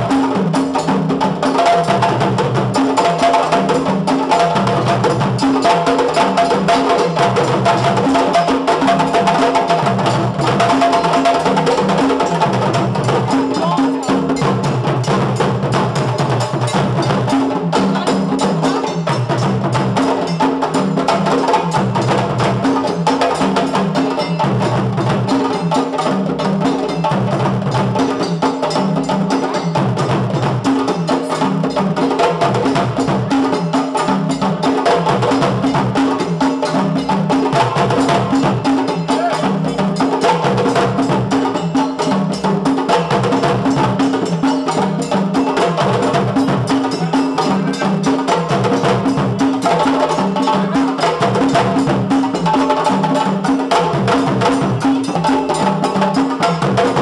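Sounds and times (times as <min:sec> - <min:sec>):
djembes drumming: 0:00.0 - 0:57.0.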